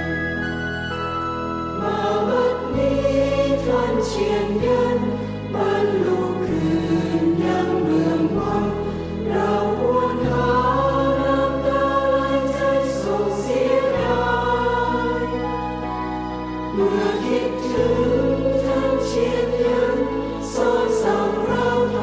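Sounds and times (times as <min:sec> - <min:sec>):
group singing a slow song: 0:01.8 - 0:22.0.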